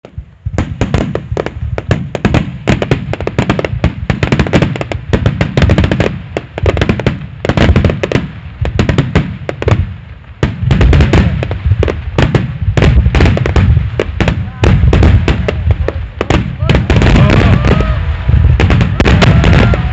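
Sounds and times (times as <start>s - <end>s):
fireworks booming and cracking: 0.0s - 19.9s.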